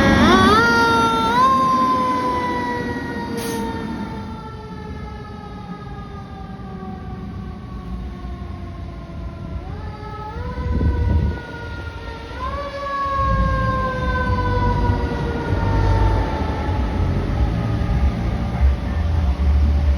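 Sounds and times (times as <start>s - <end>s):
fire engine siren wailing: 0.0s - 19.9s
truck rumbling past: 0.0s - 19.9s.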